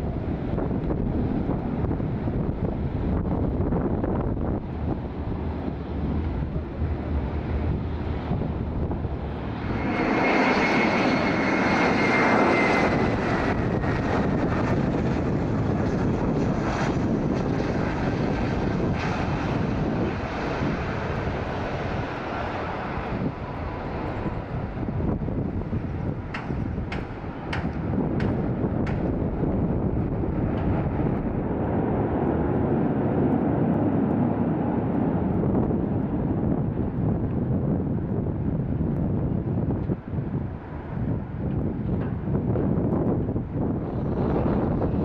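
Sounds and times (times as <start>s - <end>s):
jet engines whining: 0.0s - 45.0s
wind buffeting microphone: 0.0s - 45.0s.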